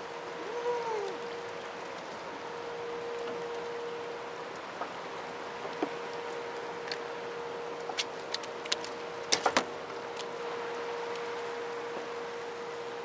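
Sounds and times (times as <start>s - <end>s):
faint steady hum: 0.0s - 13.0s
water rushing: 0.0s - 13.0s.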